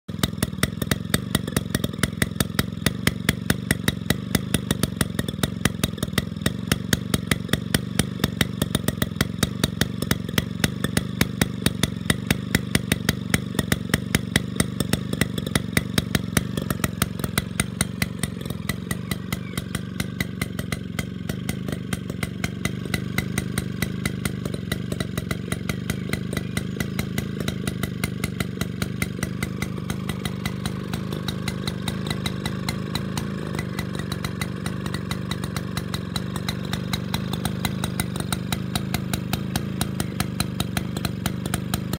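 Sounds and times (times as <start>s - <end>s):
exhaust pops: 0.1s - 41.9s
two-stroke engine running: 0.1s - 41.9s.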